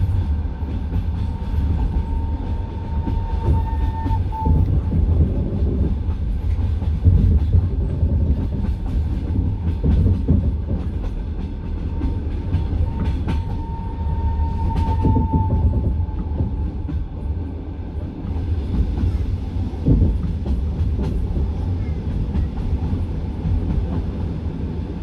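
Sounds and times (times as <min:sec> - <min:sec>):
train carriage rumbling: 0:00.0 - 0:25.0.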